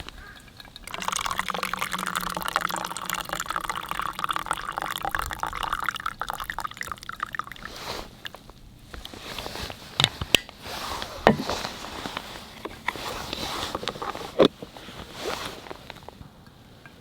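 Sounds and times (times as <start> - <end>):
rustling: 0.0 - 5.0, 7.6 - 17.0.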